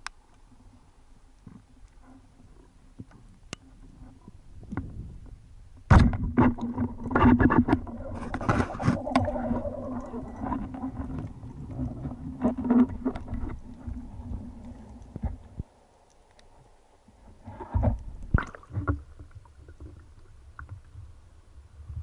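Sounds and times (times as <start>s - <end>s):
rumbling water: 0.4s - 22.0s.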